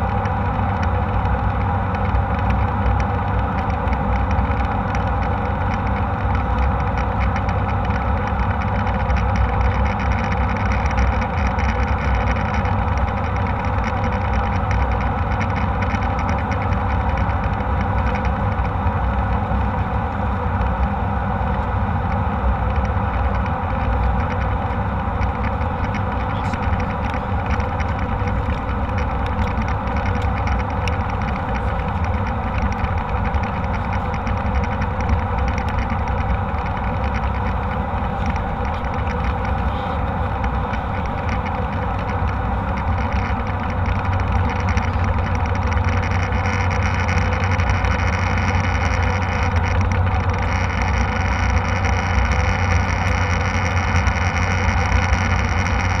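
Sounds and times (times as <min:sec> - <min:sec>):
airliner cabin jet engine drone: 0:00.0 - 0:56.0.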